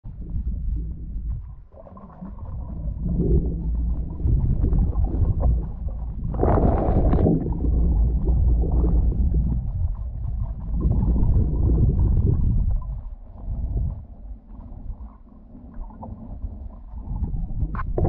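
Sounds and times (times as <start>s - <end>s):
underwater water flow rumble: 0.0s - 18.0s.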